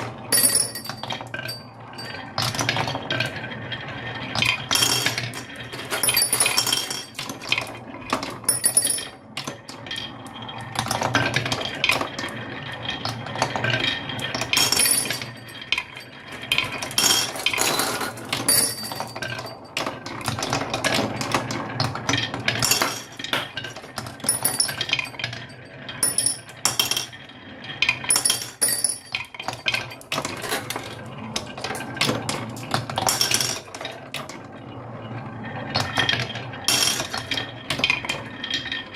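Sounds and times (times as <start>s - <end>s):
toy pieces clattering down track: 4.4s - 27.2s, 27.8s - 34.4s, 35.7s - 38.9s.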